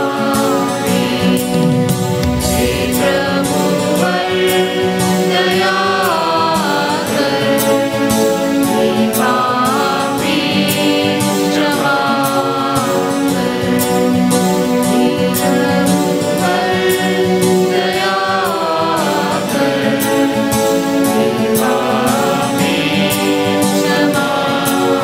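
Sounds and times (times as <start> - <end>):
group singing a hymn: 0.0 - 25.0
instrumental accompaniment with beat: 0.0 - 25.0.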